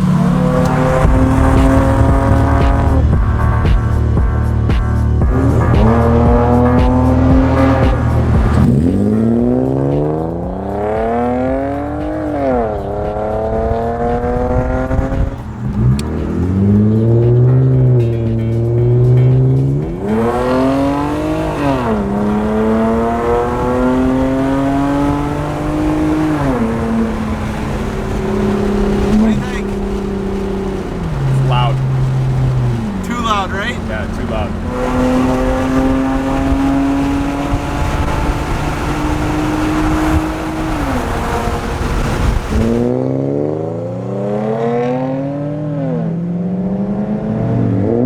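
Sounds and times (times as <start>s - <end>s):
loud car exhaust accelerating: 0.0s - 48.0s.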